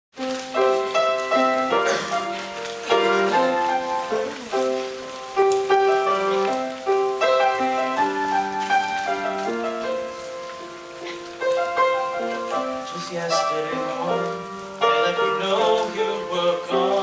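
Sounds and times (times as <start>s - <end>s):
grand piano chords: 0.2s - 17.0s.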